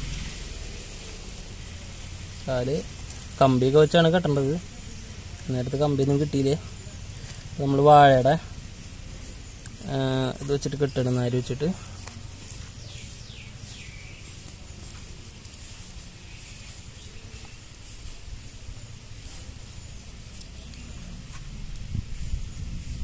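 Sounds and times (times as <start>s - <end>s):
banana leaves crinkling: 0.0s - 23.0s
hands rustling leaves: 0.0s - 23.0s
low steady rumble: 0.0s - 23.0s.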